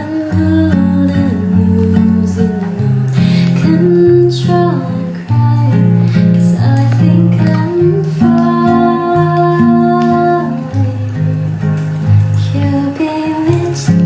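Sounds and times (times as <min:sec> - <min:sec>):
acoustic guitar slow song: 0:00.0 - 0:14.0.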